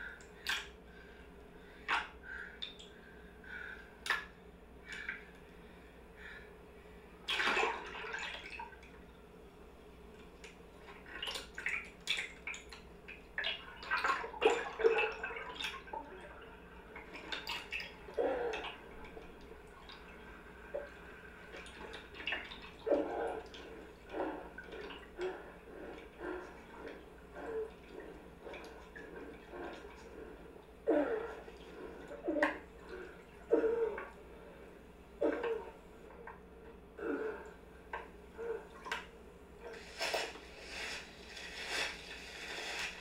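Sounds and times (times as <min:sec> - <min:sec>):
water dripping and sloshing: 0:00.0 - 0:06.4, 0:07.1 - 0:43.0
faint steady hum: 0:00.0 - 0:43.0.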